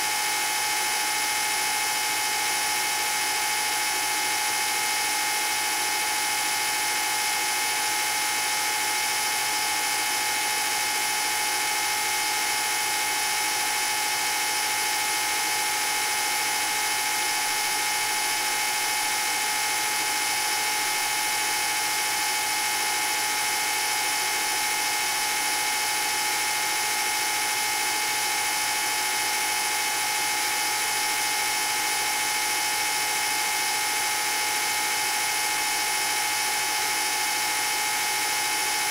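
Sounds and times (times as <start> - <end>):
film projector motor whine: 0.0 - 38.9.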